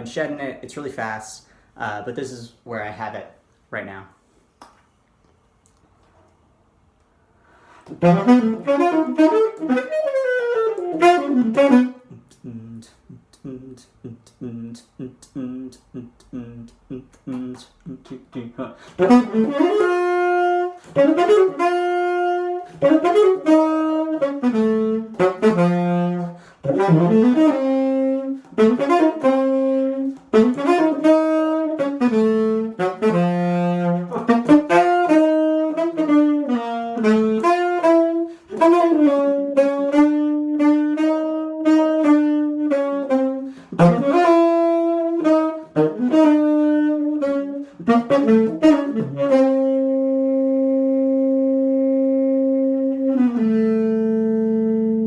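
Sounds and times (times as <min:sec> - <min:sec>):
solo tenor saxophone jazz: 0:07.6 - 0:55.0.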